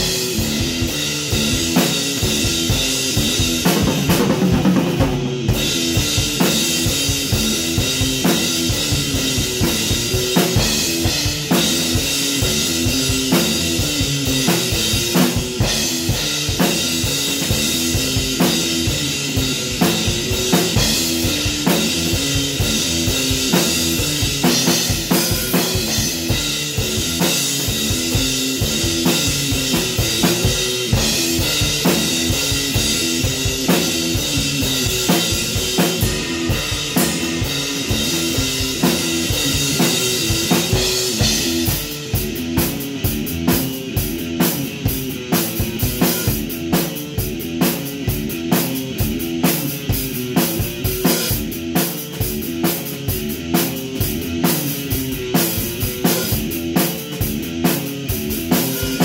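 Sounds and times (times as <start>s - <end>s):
electric guitar riff: 0.0s - 46.7s, 55.0s - 59.0s
rock drum beat: 0.0s - 59.0s.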